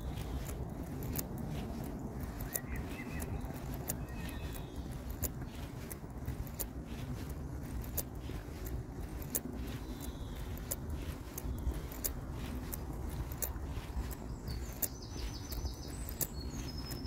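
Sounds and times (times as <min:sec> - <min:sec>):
sharp clicks: 0:00.0 - 0:17.0.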